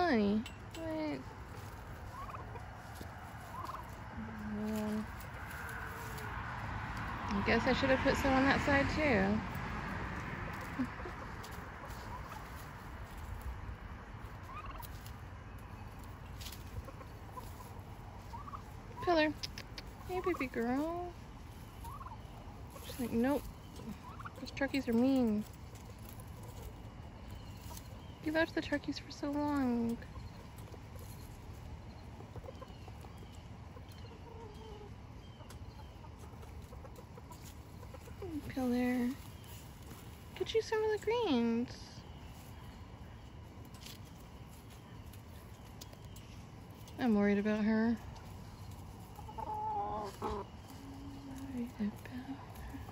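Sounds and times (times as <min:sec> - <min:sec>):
turkeys calling: 0:00.0 - 0:52.9.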